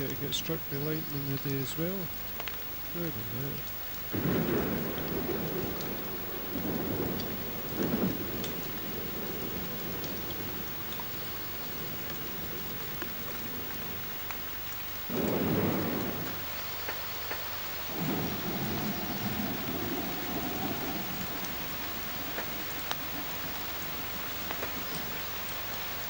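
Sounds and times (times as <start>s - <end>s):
low thunder rumbles: 0.0s - 26.0s
rain drop ticks: 0.0s - 26.0s
steady rain hiss: 0.0s - 26.0s.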